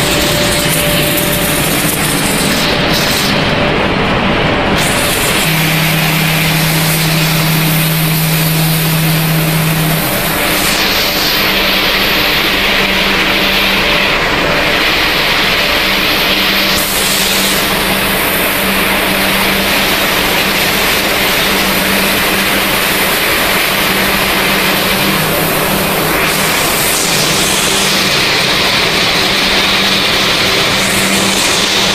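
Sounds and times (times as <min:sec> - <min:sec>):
low hum: 0:00.0 - 0:31.9
machinery drone: 0:00.0 - 0:31.9.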